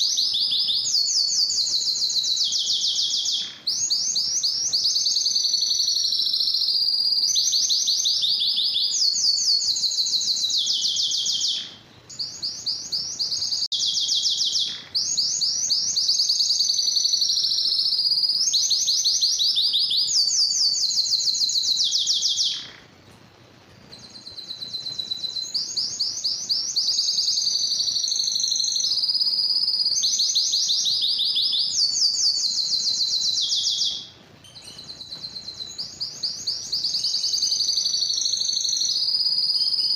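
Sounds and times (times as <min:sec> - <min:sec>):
canary singing trills: 0:00.0 - 0:23.0, 0:23.8 - 0:39.9.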